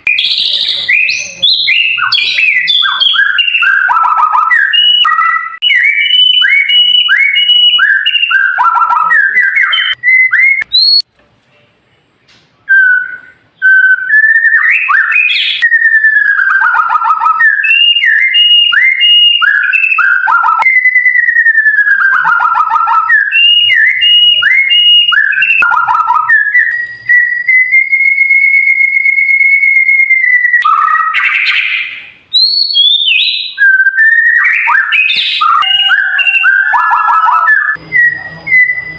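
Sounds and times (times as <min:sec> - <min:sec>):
bird singing whistled phrases: 0:00.0 - 0:11.1, 0:12.7 - 0:38.9.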